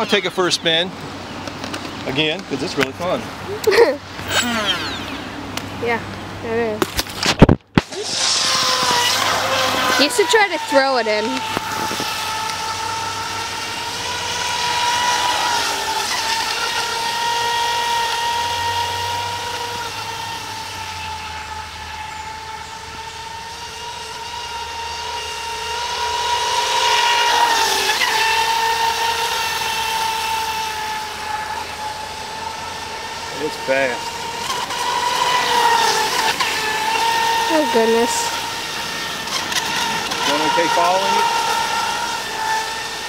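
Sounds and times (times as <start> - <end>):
high-pitched motor whine: 0.0 - 43.0.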